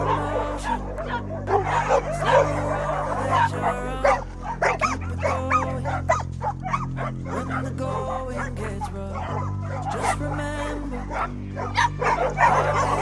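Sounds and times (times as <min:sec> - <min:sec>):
background music: 0:00.0 - 0:13.0
many dogs barking and yelping: 0:00.0 - 0:13.0.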